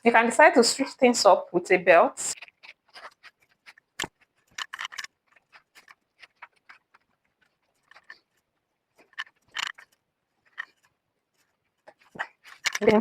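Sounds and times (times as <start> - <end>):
belt and fabric rustling: 2.2 - 13.0.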